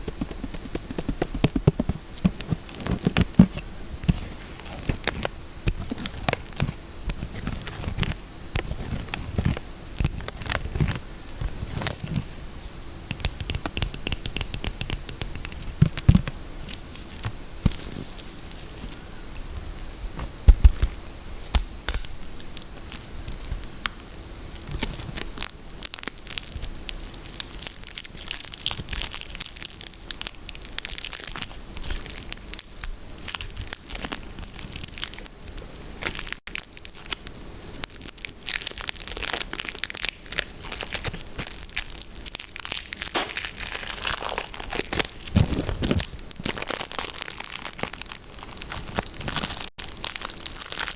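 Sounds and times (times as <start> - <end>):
wrapping torn and crinkled: 0.1 - 12.7, 15.4 - 19.0, 19.6 - 50.9.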